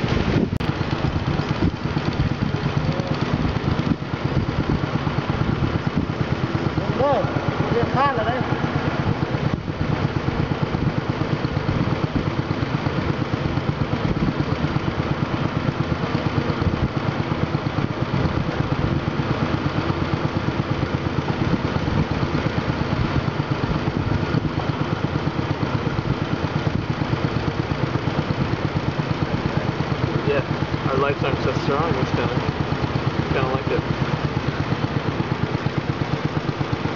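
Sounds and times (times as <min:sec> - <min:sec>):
boat engine pulsing: 0:00.0 - 0:36.9.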